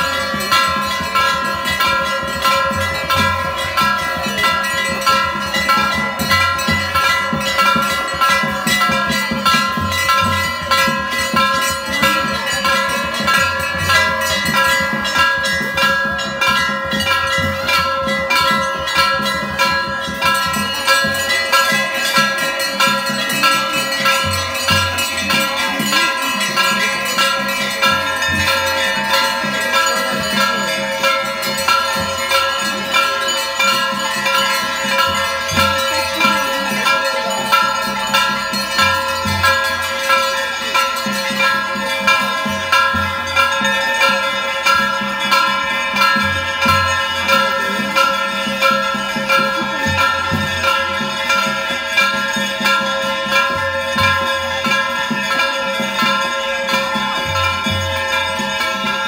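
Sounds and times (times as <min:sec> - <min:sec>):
temple bells ringing: 0:00.0 - 0:59.0.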